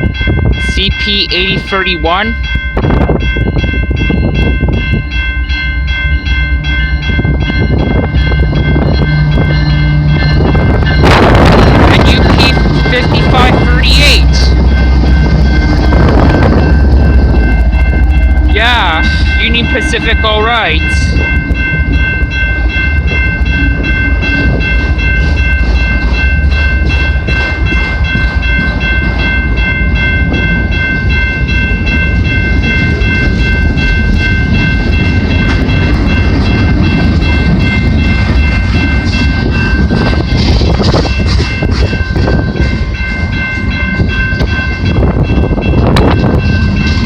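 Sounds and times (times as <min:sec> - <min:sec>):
high-pitched ringing tone: 0:00.0 - 0:47.0
train low rumble: 0:00.0 - 0:47.0.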